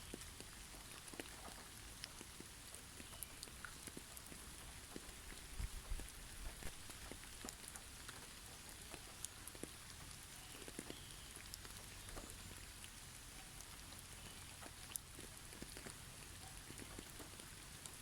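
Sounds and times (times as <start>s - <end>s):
faint steady hiss: 0.0s - 18.0s
soft ticks and patters: 0.0s - 18.0s.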